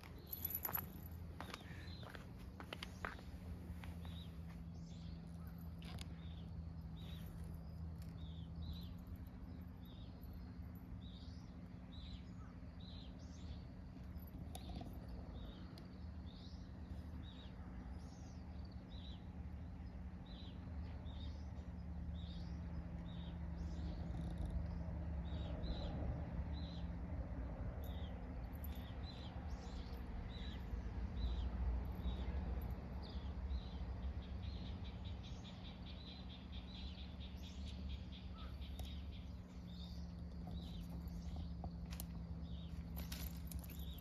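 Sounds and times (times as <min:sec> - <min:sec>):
small bird chirping: 0:00.0 - 0:44.0
steady low hum: 0:00.0 - 0:44.0.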